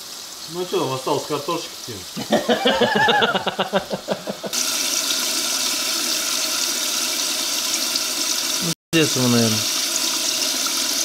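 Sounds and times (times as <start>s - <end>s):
tap running water: 0.0s - 11.0s.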